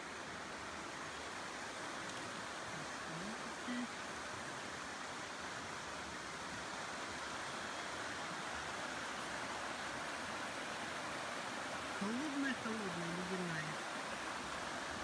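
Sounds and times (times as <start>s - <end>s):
flowing stream water: 0.0s - 15.0s.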